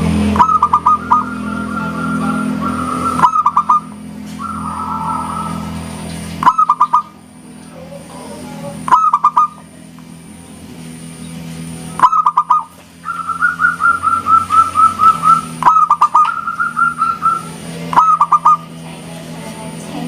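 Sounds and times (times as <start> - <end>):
dove cooing: 0.1 - 9.9, 11.7 - 19.8.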